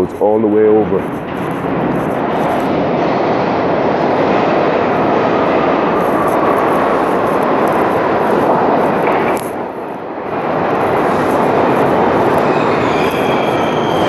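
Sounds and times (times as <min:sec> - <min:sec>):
faint train whine: 0:00.0 - 0:14.0
subway train rumbling: 0:00.0 - 0:14.0.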